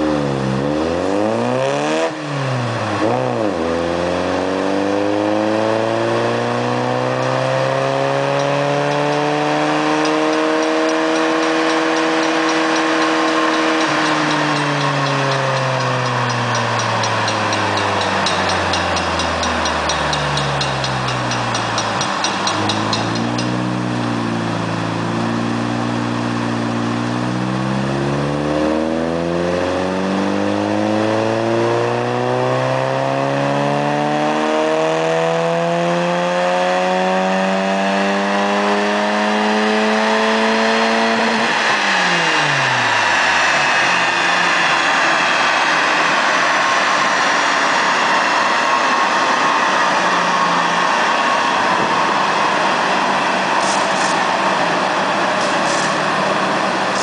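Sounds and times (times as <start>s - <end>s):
car engine revving at full throttle: 0.0s - 57.0s
high whine of dyno roller: 0.0s - 57.0s.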